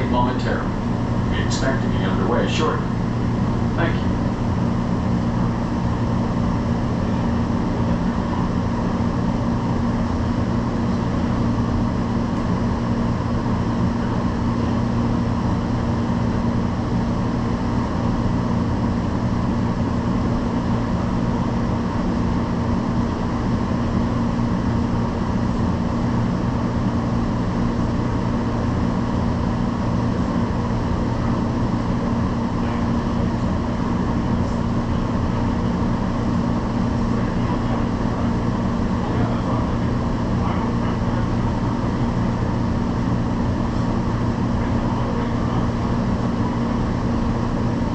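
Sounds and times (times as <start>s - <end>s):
train ventilation hum: 0.0s - 47.9s.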